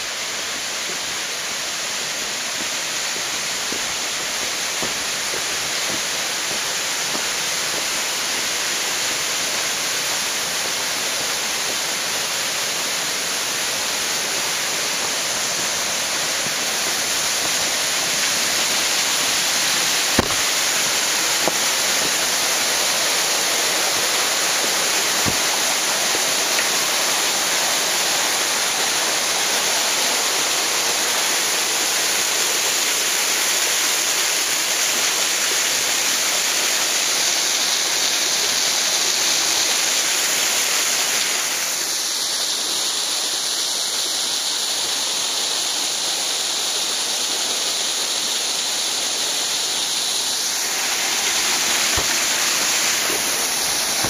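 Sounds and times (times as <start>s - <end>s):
waterfall pouring onto rocks: 0.0s - 54.0s.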